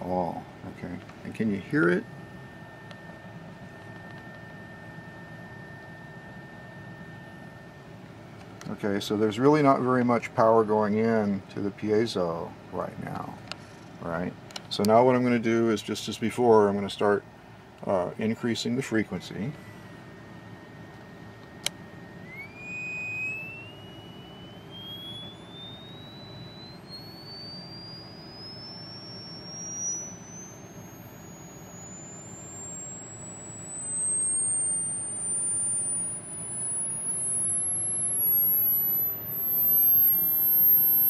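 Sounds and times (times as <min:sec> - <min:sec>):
piezo whistle rising to high whine: 0:00.0 - 0:11.3, 0:18.8 - 0:41.0.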